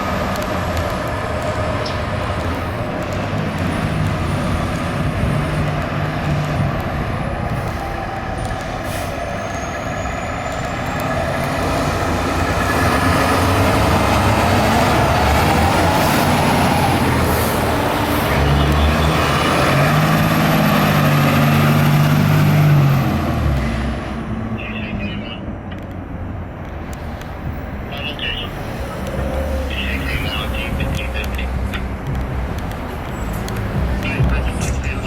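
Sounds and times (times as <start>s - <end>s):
fire engine driving past: 0.0s - 35.0s.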